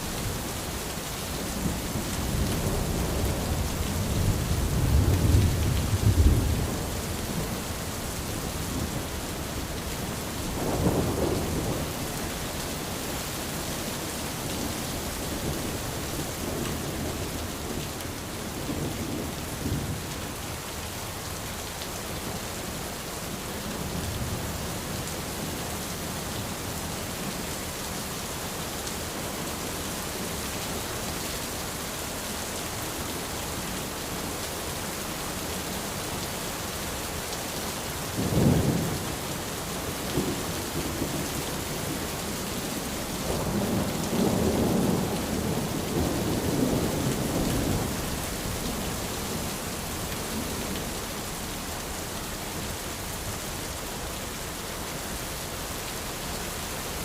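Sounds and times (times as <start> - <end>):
rain on an umbrella: 0.0 - 57.0.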